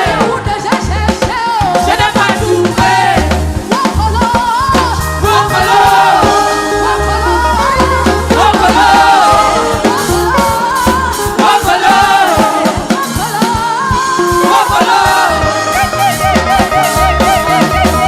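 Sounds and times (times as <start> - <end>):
band with bass and drums: 0.0 - 18.0
gospel choir singing: 0.0 - 18.0.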